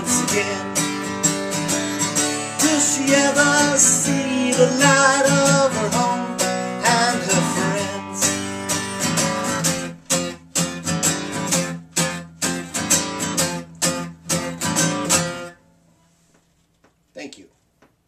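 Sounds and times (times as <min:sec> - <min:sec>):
acoustic guitar strumming: 0:00.0 - 0:15.7.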